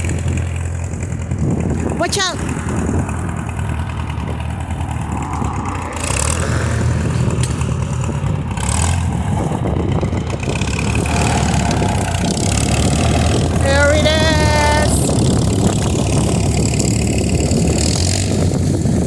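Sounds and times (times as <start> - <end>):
vehicle engine under load: 0.0 - 19.0.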